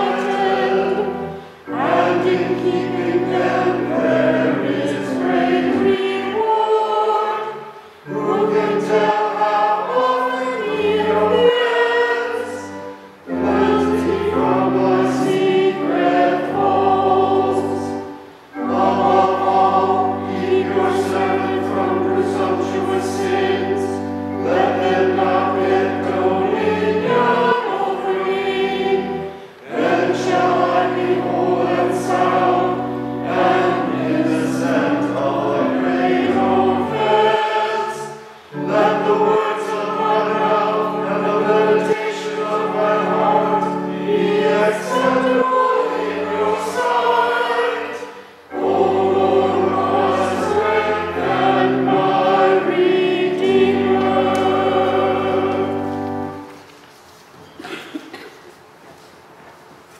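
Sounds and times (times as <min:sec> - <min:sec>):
choir singing: 0:00.0 - 0:56.7
pipe organ: 0:00.0 - 0:57.8.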